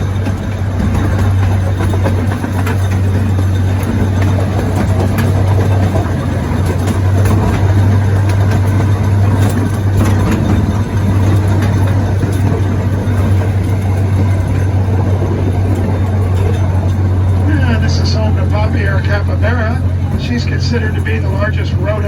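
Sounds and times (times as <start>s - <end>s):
miniature train engine hum: 0.0s - 22.0s.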